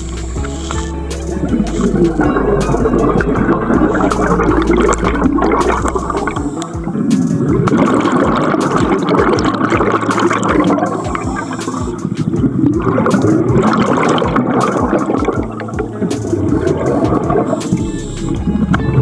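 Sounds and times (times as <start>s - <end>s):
low thumps: 0.0s - 19.0s
water bubbling underwater: 0.0s - 19.0s.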